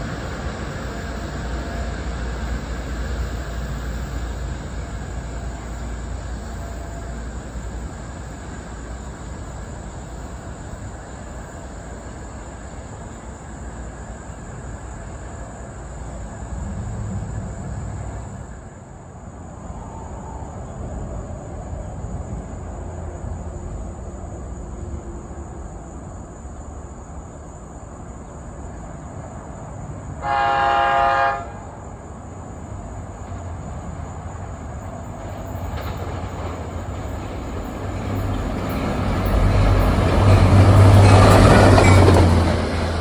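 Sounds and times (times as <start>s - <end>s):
train rumbling past on rails: 0.0s - 43.0s.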